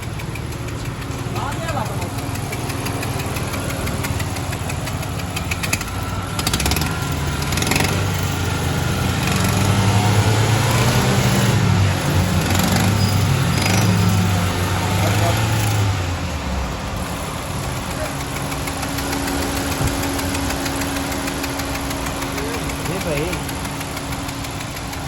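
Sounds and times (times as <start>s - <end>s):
car engine running: 0.0s - 25.0s
rapid engine ticking: 0.0s - 25.0s.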